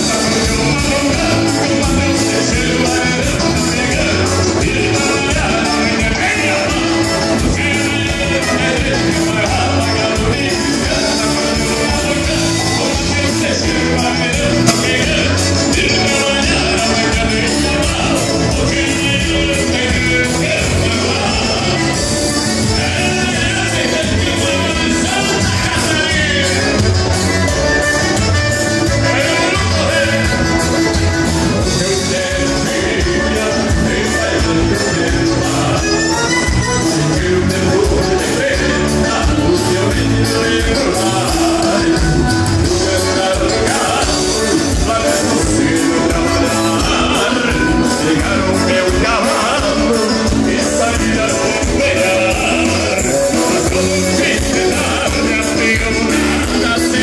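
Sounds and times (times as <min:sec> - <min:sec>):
live band playing dance music: 0:00.0 - 0:57.0.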